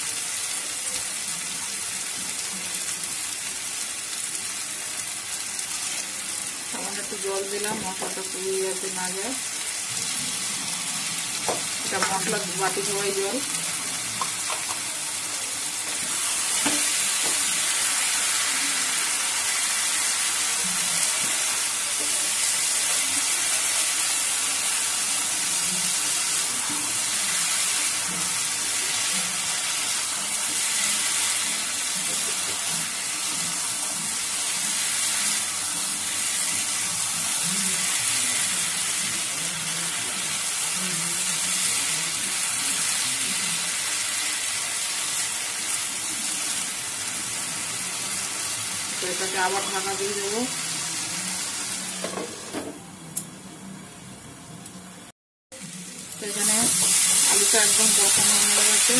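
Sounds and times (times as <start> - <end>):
potatoes sizzling in oil: 0.0 - 52.5, 55.6 - 58.9.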